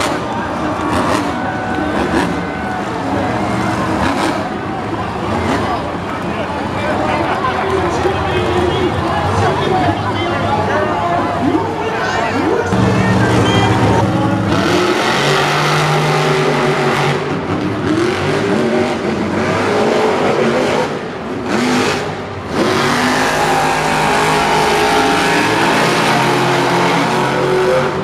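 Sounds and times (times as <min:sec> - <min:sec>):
monster truck engines revving: 0:00.0 - 0:28.0.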